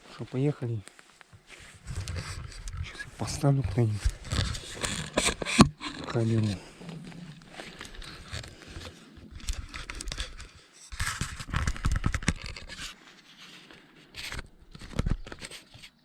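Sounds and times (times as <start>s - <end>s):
camera scraping and rustling: 0.0s - 16.0s.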